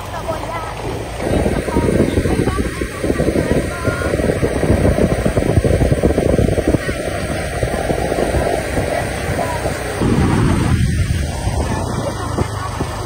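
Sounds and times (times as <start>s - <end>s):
vehicle rumbling on dirt road: 0.0s - 13.0s
wind buffeting microphone: 0.0s - 13.0s.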